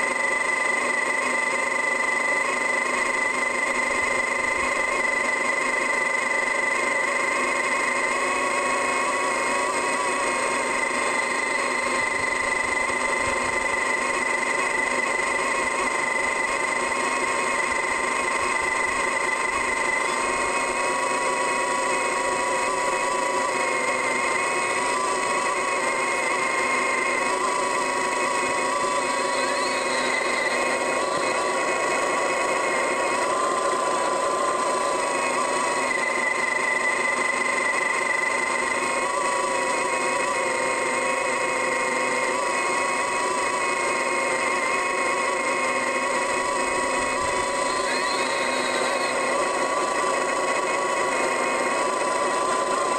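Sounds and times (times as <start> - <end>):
digging machine engine droning: 0.0 - 52.9.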